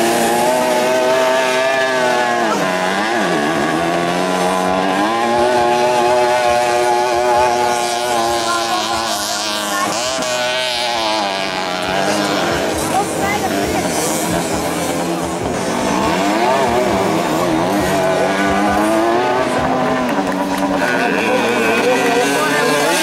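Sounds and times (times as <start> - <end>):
moped engine revving high: 0.0 - 23.0.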